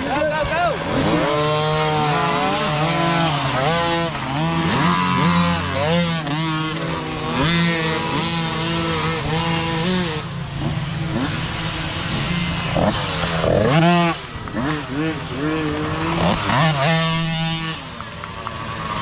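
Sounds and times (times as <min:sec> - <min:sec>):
dirt bikes revving past: 0:00.0 - 0:19.0.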